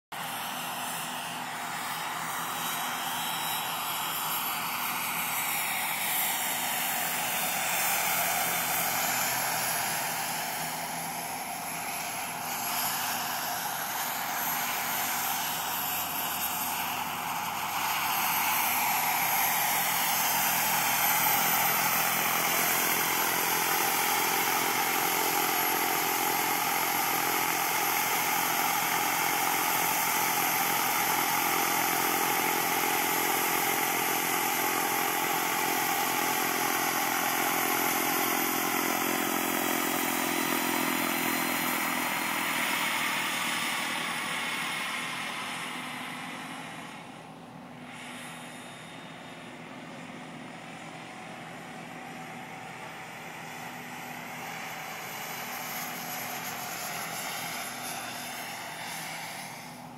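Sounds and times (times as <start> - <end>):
model helicopter turbine rushing: 0.2 - 59.9.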